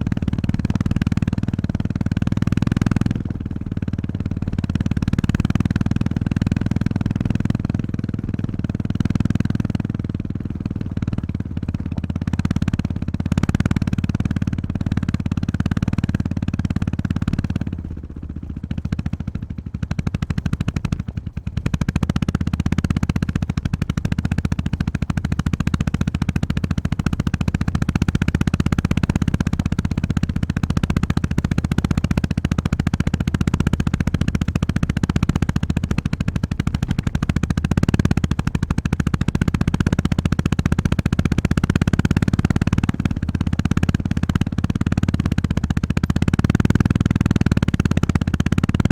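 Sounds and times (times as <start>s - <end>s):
motorcycle engine thumping: 0.0s - 48.9s.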